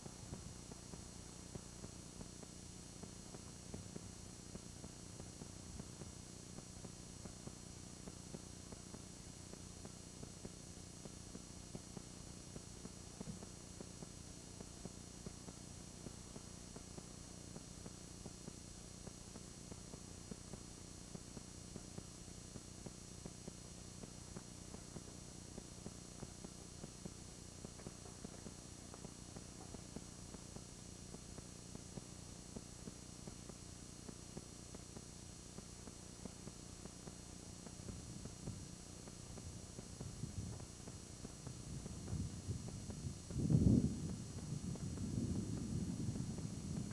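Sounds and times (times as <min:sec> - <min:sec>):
faint clicks and crackles: 0:00.0 - 0:46.9
low electrical hum and hiss: 0:00.0 - 0:46.9.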